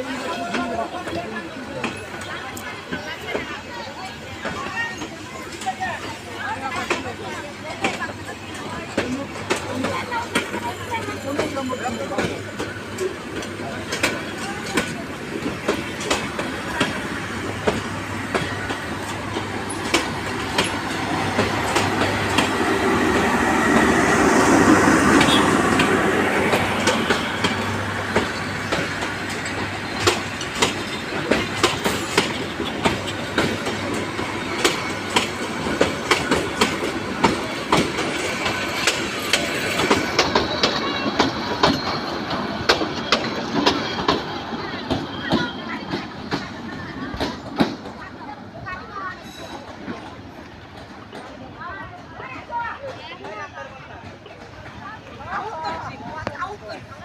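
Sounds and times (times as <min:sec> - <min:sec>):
train rumble: 0:00.0 - 0:57.0
train wheels clacking on rails: 0:00.0 - 0:57.0.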